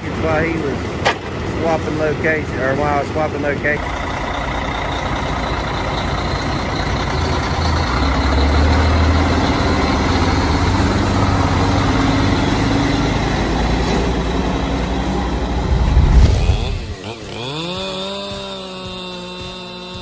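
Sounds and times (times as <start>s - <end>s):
heavy machine engine running: 0.0s - 17.6s.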